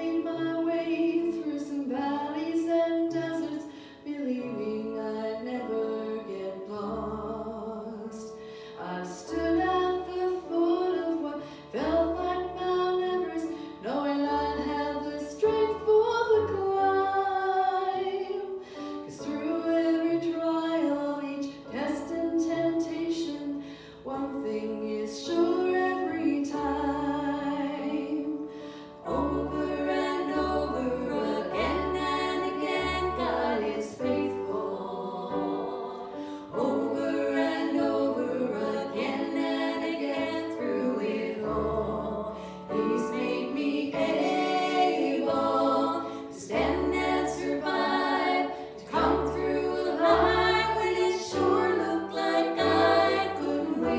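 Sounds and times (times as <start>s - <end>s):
voices singing worship song: 0.0s - 53.9s.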